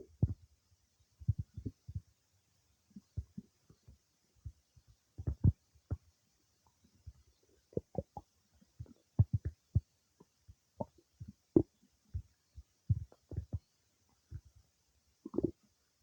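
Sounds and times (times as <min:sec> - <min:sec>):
stomach gurgling: 0:00.0 - 0:00.4, 0:01.2 - 0:02.2, 0:02.9 - 0:14.6, 0:15.2 - 0:15.8.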